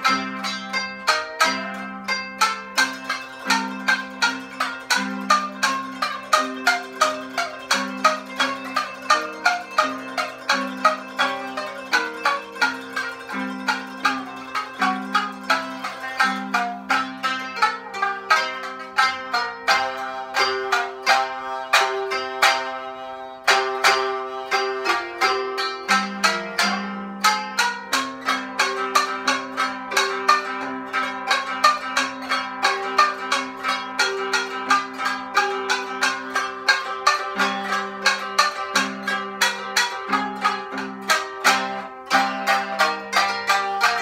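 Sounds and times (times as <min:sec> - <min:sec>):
plucked string instruments duet: 0:00.0 - 0:44.0.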